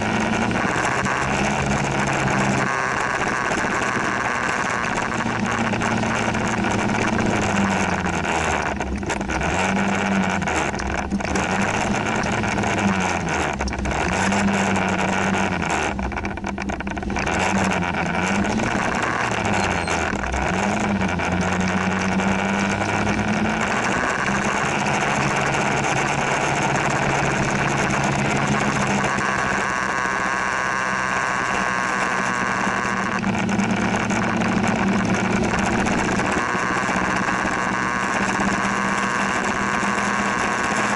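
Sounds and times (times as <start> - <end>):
motor scooter engine: 0.0 - 40.9
wind and road noise: 0.0 - 40.9.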